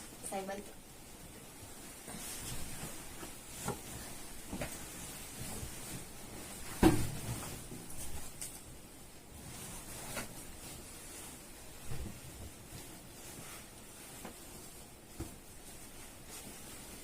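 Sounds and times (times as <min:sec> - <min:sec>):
shuffling: 0:01.0 - 0:08.4, 0:09.0 - 0:17.0.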